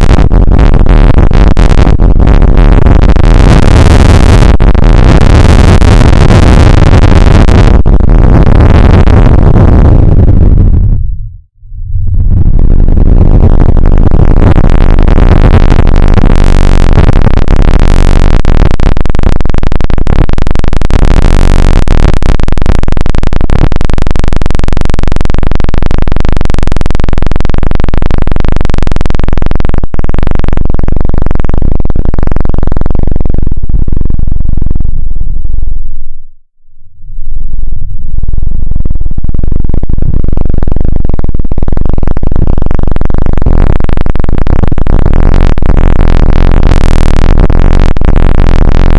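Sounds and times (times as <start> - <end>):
dense synthesized electronic noise: 0.0 - 48.9.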